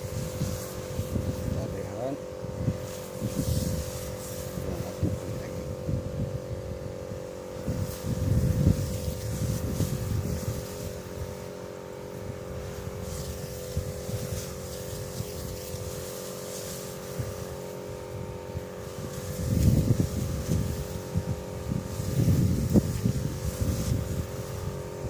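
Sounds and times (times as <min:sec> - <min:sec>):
engine running steadily: 0:00.0 - 0:25.0
wind gusting on microphone: 0:00.0 - 0:25.0.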